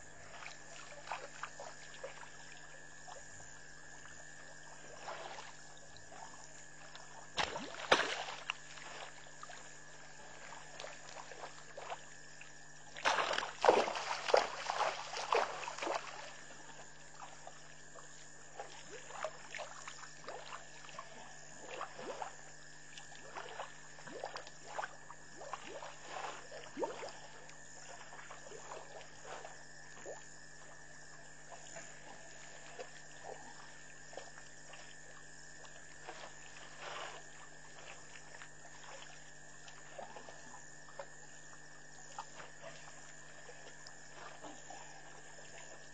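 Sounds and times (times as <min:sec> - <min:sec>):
water sloshing and splashing: 0:00.0 - 0:45.9.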